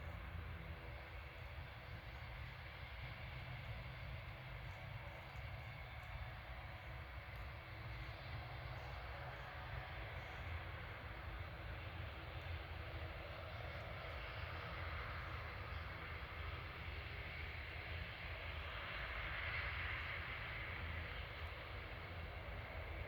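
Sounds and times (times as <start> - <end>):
distant jet engines roaring: 0.0 - 23.0.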